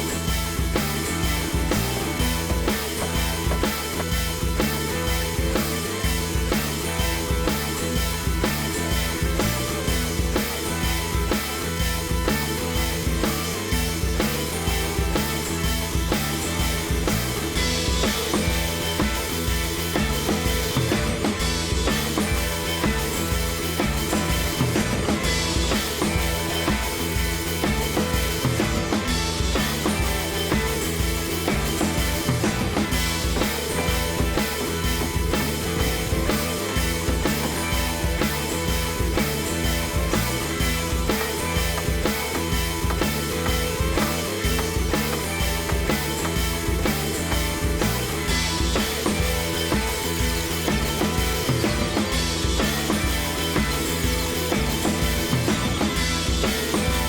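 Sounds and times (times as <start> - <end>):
rock music with drums and guitar: 0.0 - 57.0.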